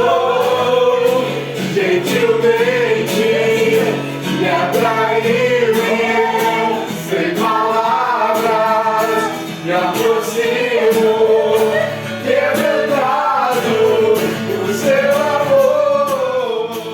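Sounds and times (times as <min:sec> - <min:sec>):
people singing together: 0:00.0 - 0:16.9.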